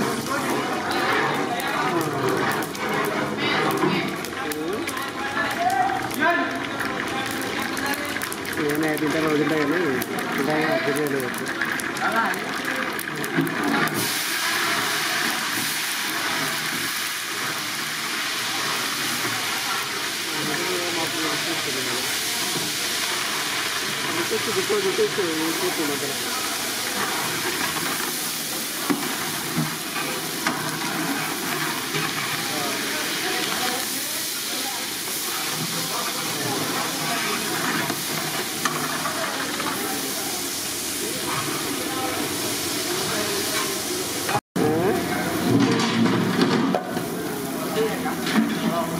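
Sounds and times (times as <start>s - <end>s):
hot oil sizzling in a pan: 0.0s - 48.9s
pot boiling and bubbling: 0.0s - 48.9s.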